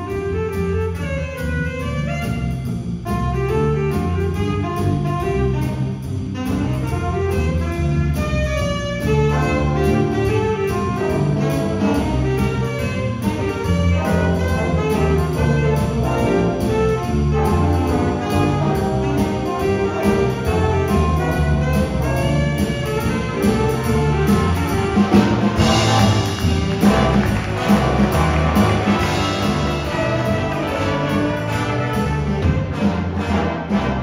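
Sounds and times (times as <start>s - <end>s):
brass section with trumpets: 0.0s - 34.0s
drums with cymbal beats: 0.0s - 34.0s
saxophone section: 0.0s - 34.0s
upright bass: 0.0s - 34.0s.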